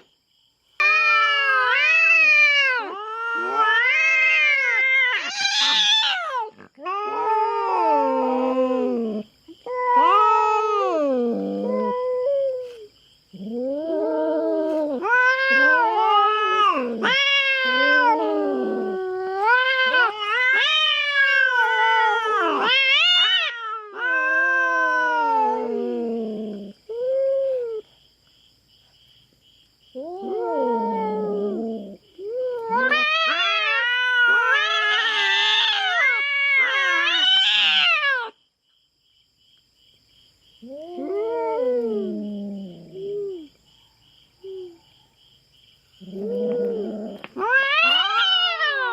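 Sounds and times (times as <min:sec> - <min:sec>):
cats yowling: 0:00.8 - 0:27.9, 0:30.0 - 0:38.4, 0:40.6 - 0:43.6, 0:46.0 - 0:48.9.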